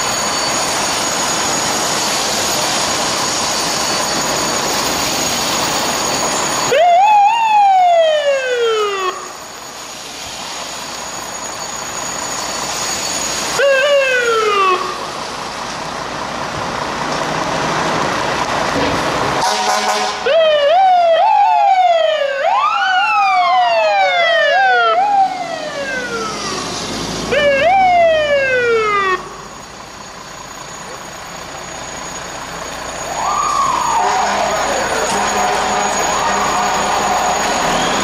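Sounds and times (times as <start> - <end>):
fire truck siren wailing: 0.0 - 38.0.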